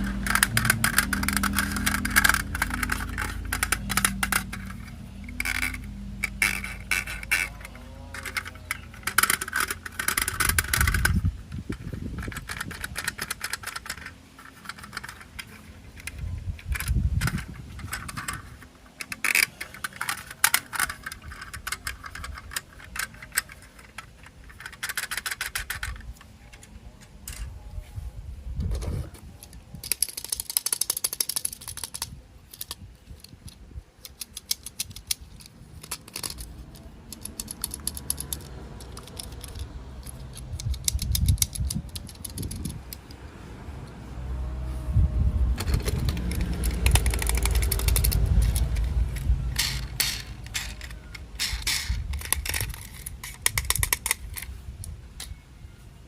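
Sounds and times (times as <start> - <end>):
plastic parts clicking and rattling: 0.0 - 27.6, 28.6 - 43.3, 45.4 - 55.4.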